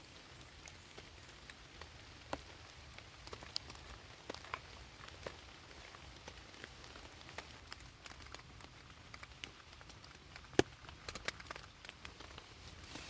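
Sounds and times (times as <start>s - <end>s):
raindrops tapping: 0.0s - 12.5s.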